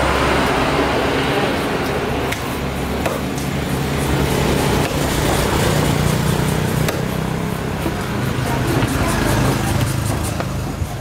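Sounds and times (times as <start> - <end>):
outdoor background din with hum: 0.0 - 11.0.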